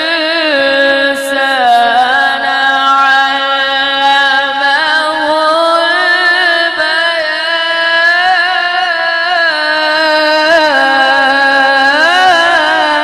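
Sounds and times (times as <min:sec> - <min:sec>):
man reciting melodically into microphone: 0:00.0 - 0:13.0.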